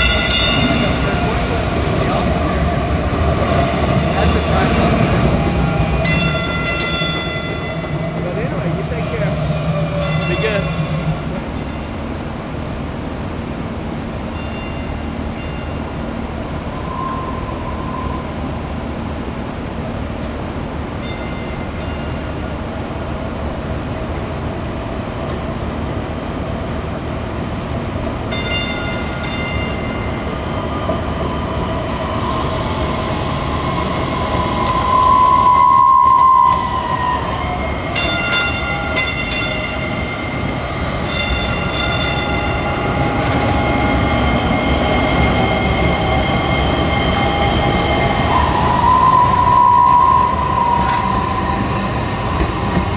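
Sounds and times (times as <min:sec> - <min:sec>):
light rail train passing: 0:00.0 - 0:52.9.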